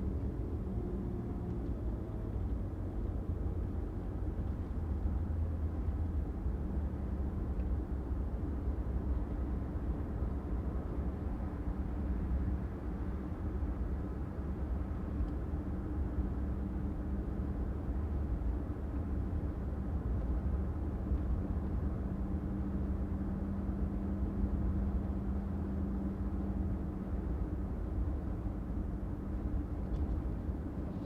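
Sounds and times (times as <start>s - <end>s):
car engine and road noise: 0.0s - 31.0s
constant low hum: 0.0s - 31.0s.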